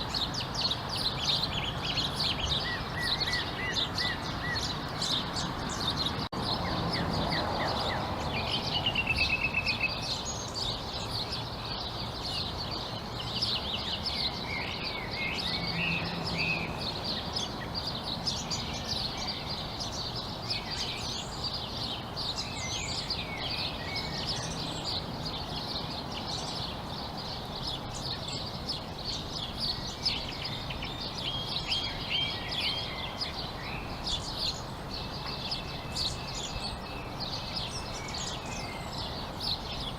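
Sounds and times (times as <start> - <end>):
bird trill: 0.0 - 39.9
birds chirping in chorus: 0.0 - 39.9
steady low background noise: 0.0 - 39.9.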